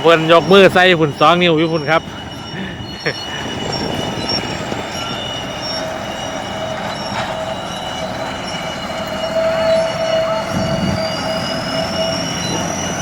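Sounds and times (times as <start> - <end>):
combine harvester rumbling: 0.0 - 13.0
high steady whining tones: 0.0 - 13.0.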